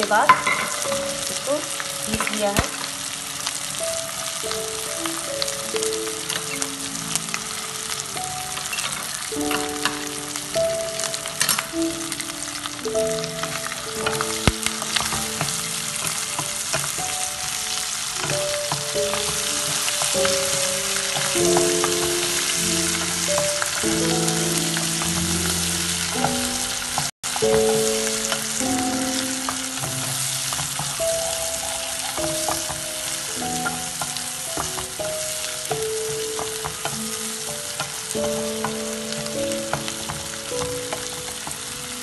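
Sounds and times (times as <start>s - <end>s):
paste sizzling in hot oil: 0.0s - 42.0s.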